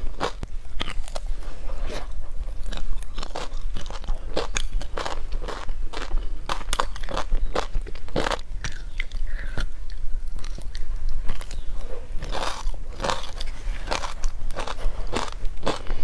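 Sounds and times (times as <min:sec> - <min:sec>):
crunchy chewing of ice chunks: 0:00.0 - 0:01.4, 0:02.0 - 0:16.0.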